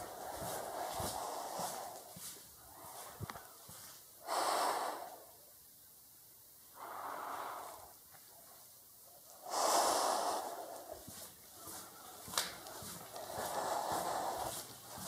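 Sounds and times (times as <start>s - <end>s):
person breathing heavily: 0.0s - 5.5s, 6.7s - 8.0s, 9.3s - 15.0s.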